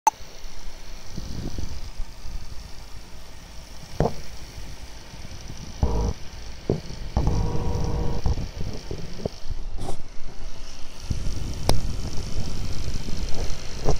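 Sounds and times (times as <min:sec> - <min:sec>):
cooling fans whining: 0:00.2 - 0:13.9
harsh buzzing rattle: 0:00.2 - 0:13.9.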